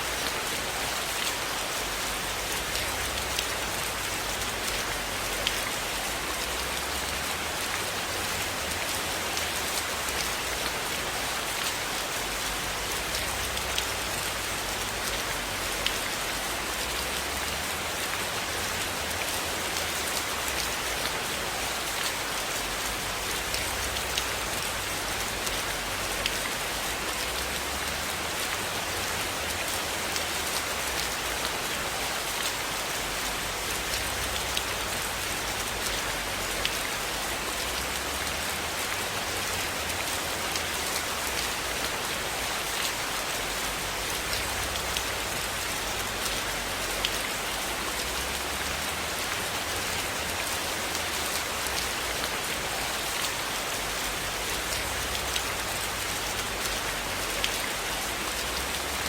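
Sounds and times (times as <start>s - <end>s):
steady rain on a cabin: 0.0s - 59.0s.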